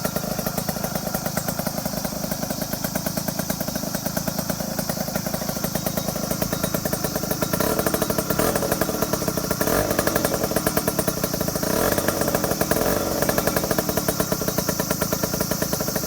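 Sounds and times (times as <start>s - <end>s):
scooter engine running: 0.0s - 16.0s.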